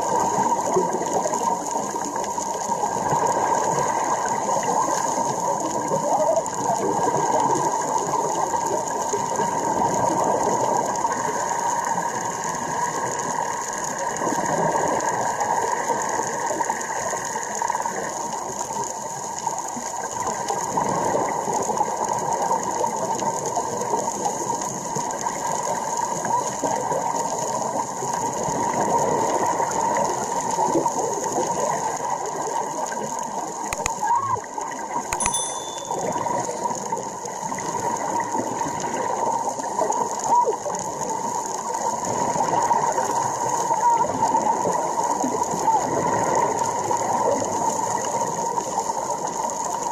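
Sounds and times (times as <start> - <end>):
dense underwater crackling: 0.0 - 34.0, 36.7 - 49.9.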